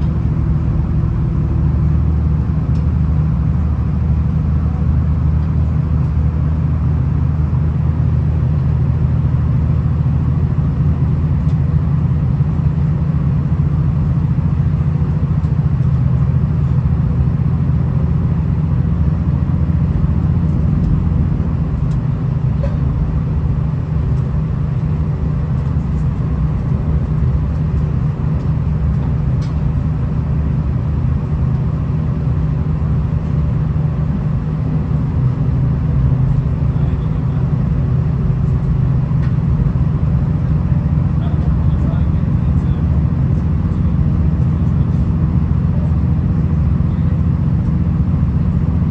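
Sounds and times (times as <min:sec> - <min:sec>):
train engine and wheels rumbling: 0:00.0 - 0:48.9.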